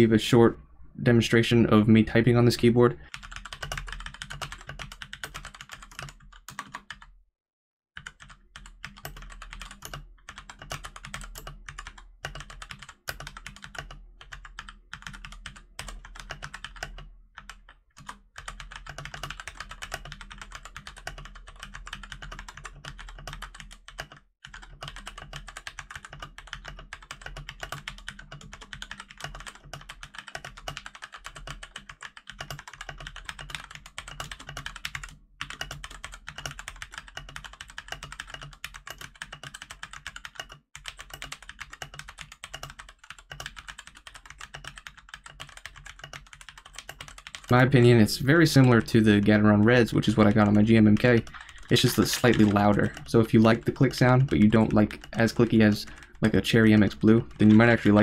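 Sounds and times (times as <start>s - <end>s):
mechanical keyboard typing: 3.1s - 7.1s, 8.0s - 58.0s.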